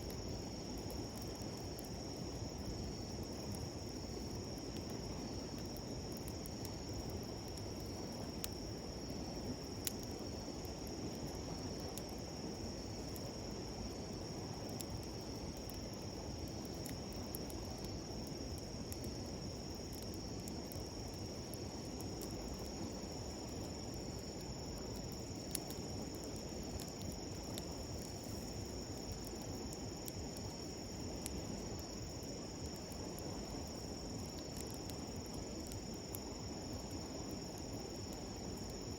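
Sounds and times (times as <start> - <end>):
campfire popping and crackling: 0.0 - 38.9
insects trilling: 0.0 - 38.9.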